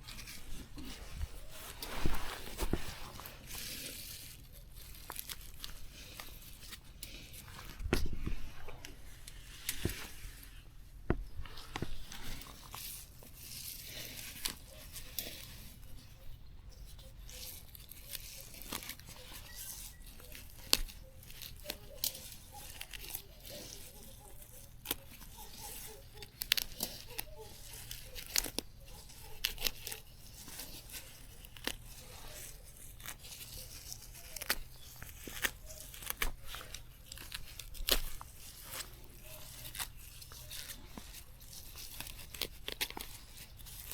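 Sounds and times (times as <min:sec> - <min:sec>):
plant stems snapping: 0:00.0 - 0:16.1, 0:17.0 - 0:43.9
leaves rustling: 0:00.0 - 0:43.9.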